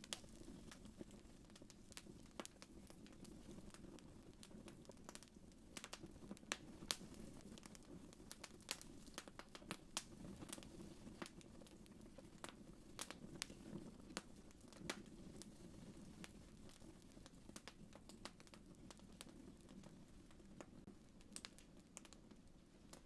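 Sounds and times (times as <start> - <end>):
wood fire crackling faintly: 0.0 - 23.0.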